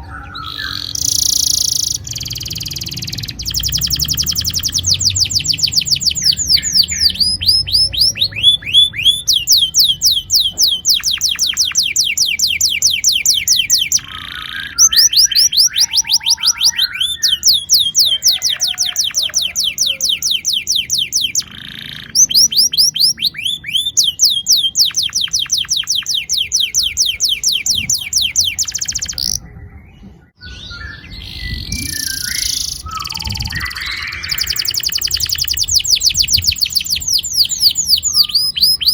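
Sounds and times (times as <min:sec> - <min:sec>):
canary chirps: 0:00.0 - 0:38.9
canary singing rolls: 0:00.0 - 0:38.9.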